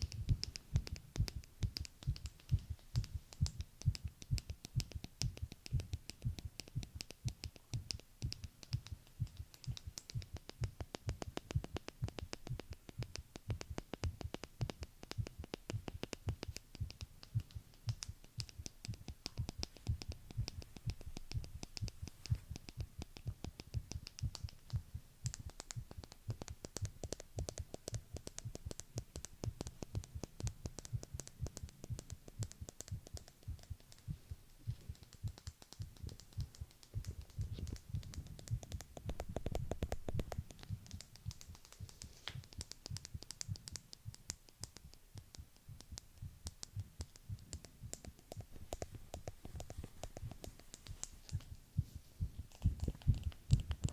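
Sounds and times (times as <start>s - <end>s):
fast irregular clicks: 0.0s - 53.9s
heartbeat thuds: 0.0s - 53.9s.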